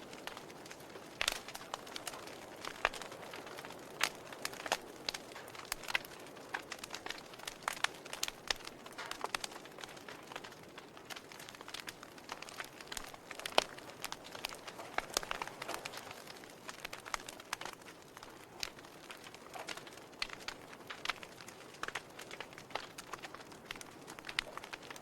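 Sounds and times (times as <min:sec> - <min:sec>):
logs crackling and popping: 0:00.0 - 0:25.0
soft steady hiss: 0:00.0 - 0:25.0.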